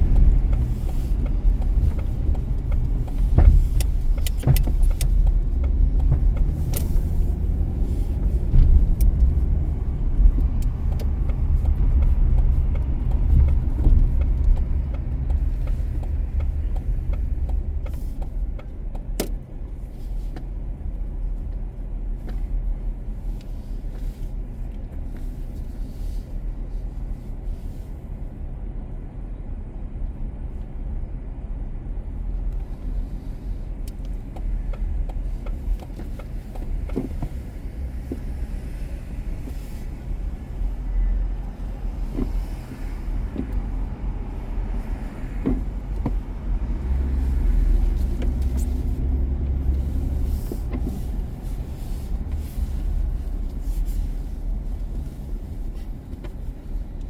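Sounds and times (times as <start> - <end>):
car driving road noise: 0.0 - 57.0.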